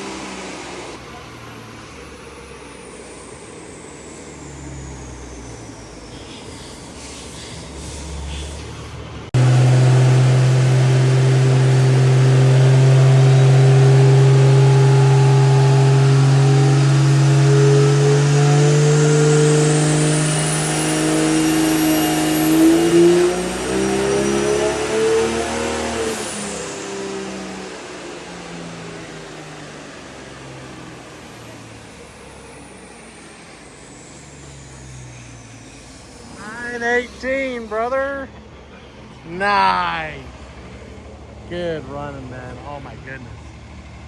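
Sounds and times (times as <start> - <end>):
diesel engine on a dyno: 0.0 - 44.0.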